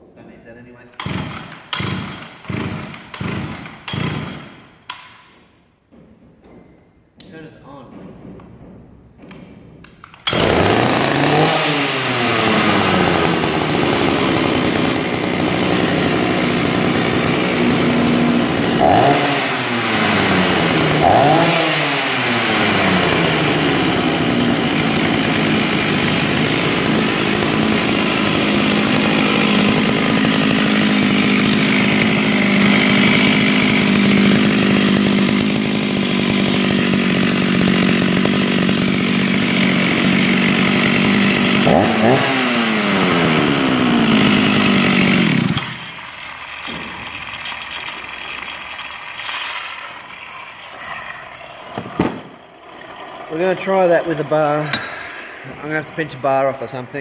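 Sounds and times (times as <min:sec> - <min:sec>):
chainsaw running: 0:01.0 - 0:05.1, 0:10.0 - 0:57.0.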